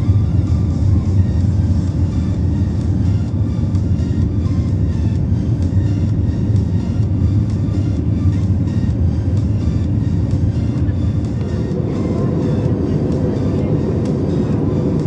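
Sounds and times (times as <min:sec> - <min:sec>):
jet engine rumble in cabin: 0:00.0 - 0:15.0
music playing: 0:00.0 - 0:15.0.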